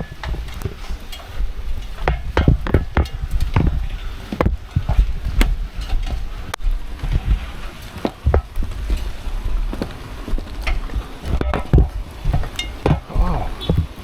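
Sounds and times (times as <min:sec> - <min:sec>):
footsteps and handling knocks: 0:00.0 - 0:14.0
low rumble: 0:00.0 - 0:14.0.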